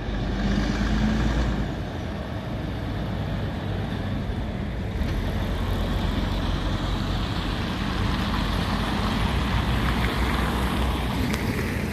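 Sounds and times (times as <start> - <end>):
heavy truck engine rumble: 0.0 - 11.9.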